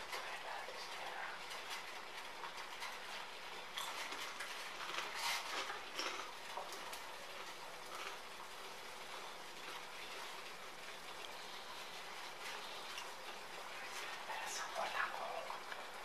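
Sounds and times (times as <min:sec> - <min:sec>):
water boiling in pot: 0:00.0 - 0:16.0.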